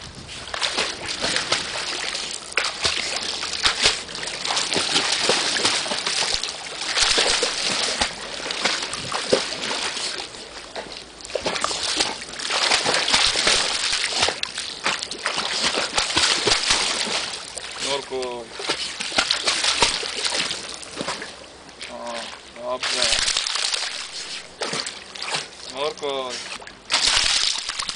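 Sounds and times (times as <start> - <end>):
dog splashing in water: 0.4 - 27.9.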